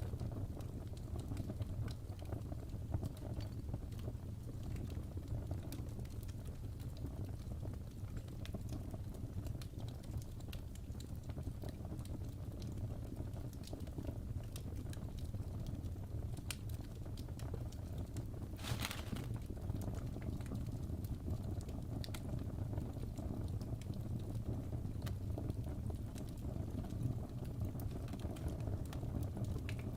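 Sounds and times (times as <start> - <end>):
fire crackling and popping: 0.0 - 29.9
low rumble of flames: 0.0 - 29.9.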